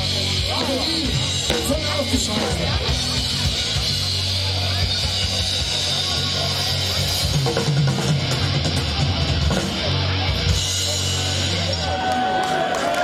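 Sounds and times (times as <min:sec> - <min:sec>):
bass notes: 0:00.0 - 0:12.1
distorted electric guitar: 0:00.0 - 0:12.4
drums: 0:00.0 - 0:13.0.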